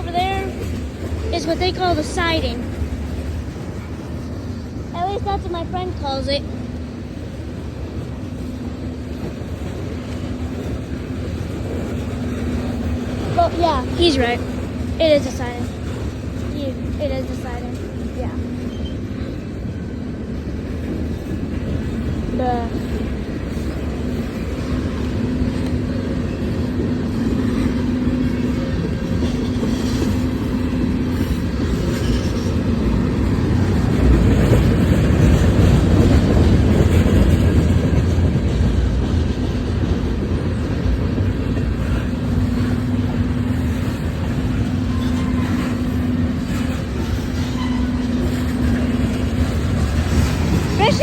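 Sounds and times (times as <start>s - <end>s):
freight train wheels clattering on rail: 0.0s - 51.0s.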